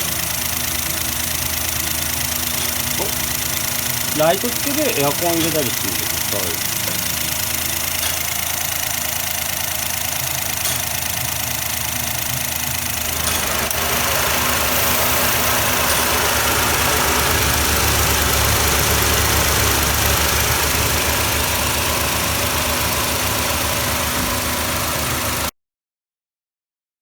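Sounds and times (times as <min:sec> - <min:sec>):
alternator croaking rattle: 0:00.0 - 0:25.5
car engine idling: 0:00.0 - 0:25.5.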